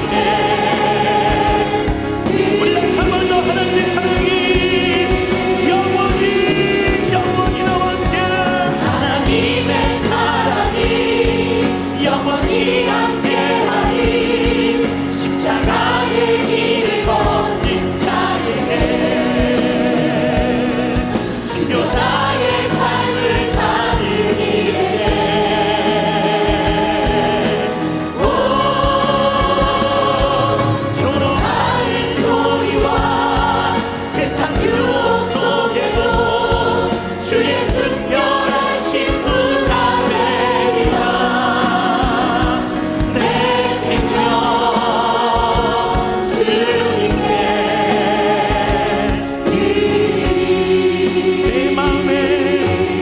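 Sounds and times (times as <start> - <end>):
choir singing praise song: 0.0 - 53.0
instrumental accompaniment with beat: 0.0 - 53.0.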